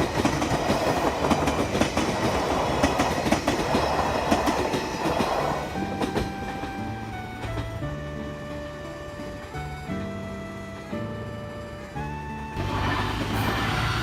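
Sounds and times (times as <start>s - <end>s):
music: 0.0s - 14.0s
train wheels clattering over rails: 0.0s - 14.0s.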